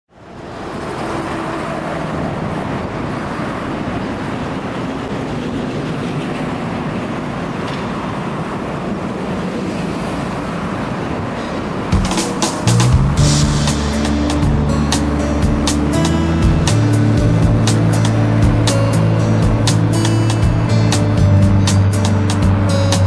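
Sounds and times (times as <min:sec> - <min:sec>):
road traffic noise: 0:00.1 - 0:23.0.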